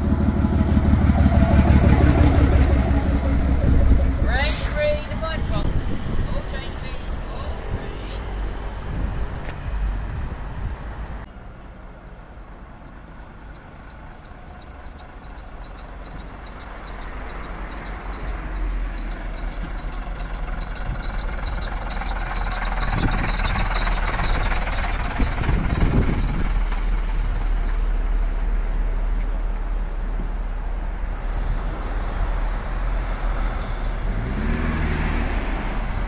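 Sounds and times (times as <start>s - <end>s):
bus diesel engine running: 0.0s - 36.0s.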